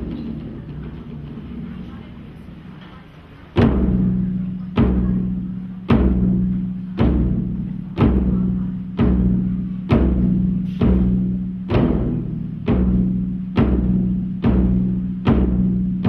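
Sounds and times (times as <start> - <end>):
large drum strikes: 0.0 - 16.0.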